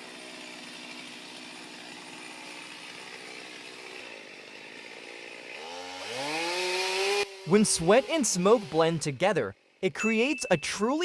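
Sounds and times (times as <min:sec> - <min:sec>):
chainsaw engine revving: 0:00.0 - 0:09.9.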